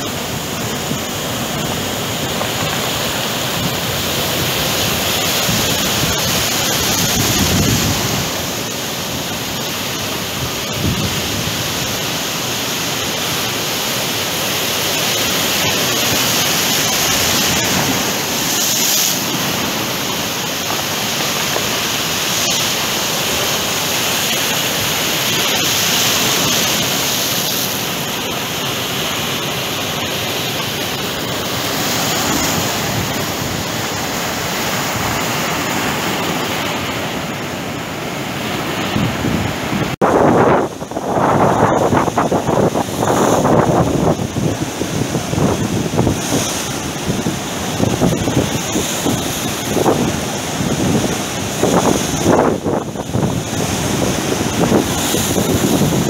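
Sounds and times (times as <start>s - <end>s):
surf breaking on rocky shore: 0.0s - 56.0s.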